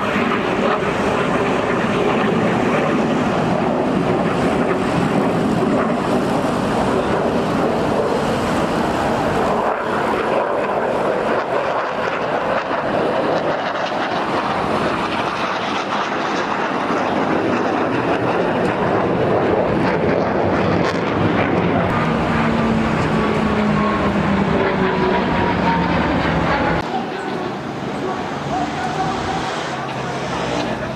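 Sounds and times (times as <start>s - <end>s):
aircraft engine rushing: 0.0s - 30.9s.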